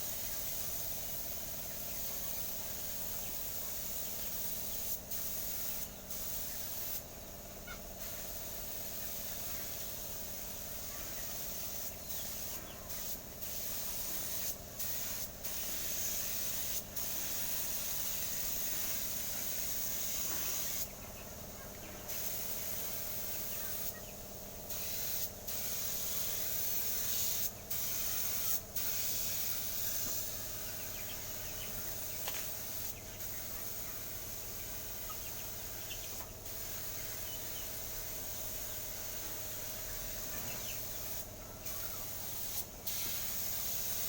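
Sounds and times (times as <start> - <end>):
paint spraying hiss: 0.0 - 20.9, 22.1 - 44.0.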